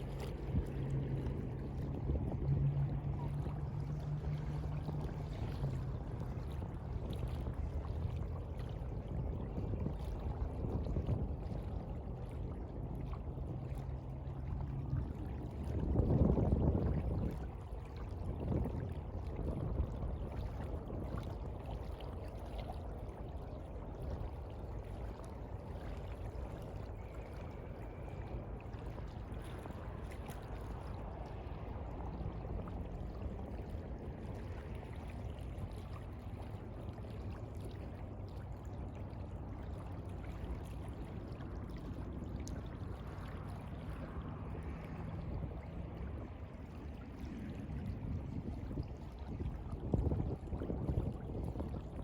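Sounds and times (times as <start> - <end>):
seawater lapping and sloshing: 0.0 - 52.0.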